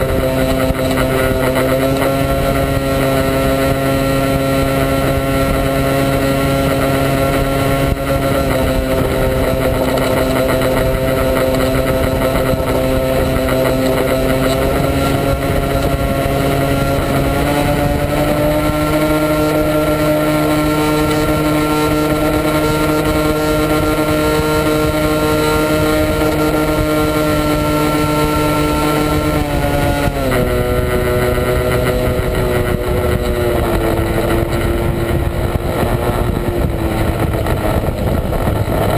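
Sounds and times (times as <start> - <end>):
model airplane motor and propeller: 0.0 - 38.9.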